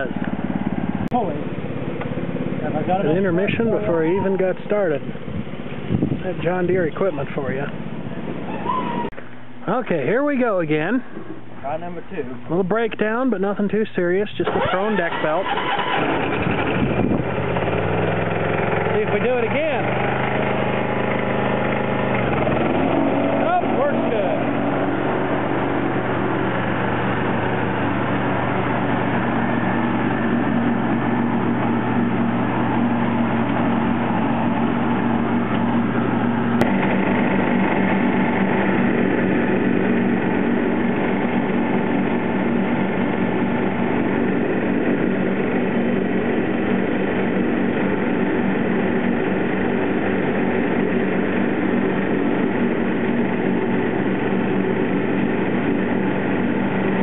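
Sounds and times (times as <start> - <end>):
mower deck cutting grass: 0.0 - 9.3, 14.4 - 57.0
lawn tractor engine running: 0.0 - 11.6, 12.9 - 57.0.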